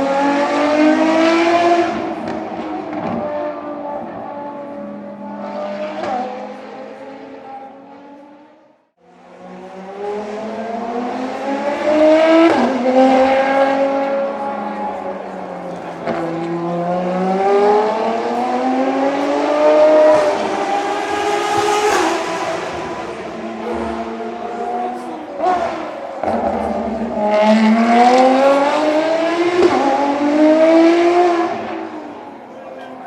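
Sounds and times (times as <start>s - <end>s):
race car engines at speed: 0.0s - 33.0s.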